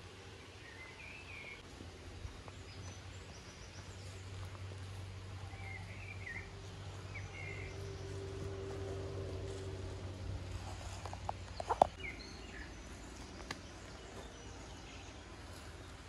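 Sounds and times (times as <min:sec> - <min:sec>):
birds chirping: 0:00.0 - 0:16.0
low background hum: 0:00.3 - 0:16.0.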